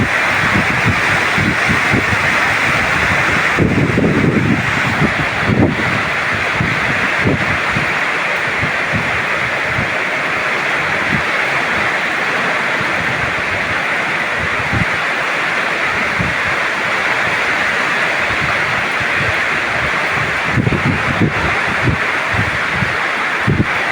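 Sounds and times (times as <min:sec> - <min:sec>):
heavy rain: 0:00.0 - 0:23.9
wind buffeting microphone: 0:00.0 - 0:23.9.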